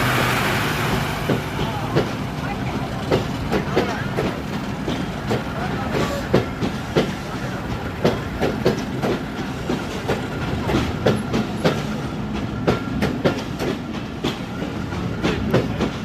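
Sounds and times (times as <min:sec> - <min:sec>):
train rumble: 0:00.0 - 0:16.0
train wheels clacking: 0:00.0 - 0:16.0.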